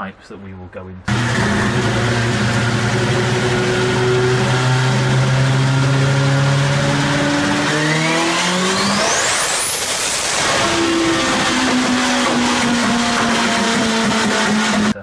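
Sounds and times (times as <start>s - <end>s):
engine running: 1.1s - 15.0s
turbine whine rising: 1.1s - 15.0s.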